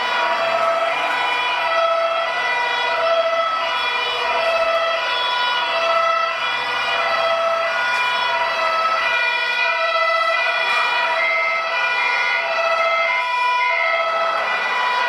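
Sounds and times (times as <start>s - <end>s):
two-tone toy fire truck siren: 0.0s - 15.0s.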